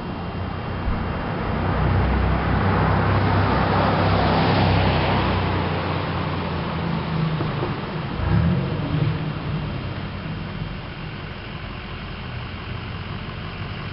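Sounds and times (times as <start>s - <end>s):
truck engine and exhaust: 0.0s - 13.9s.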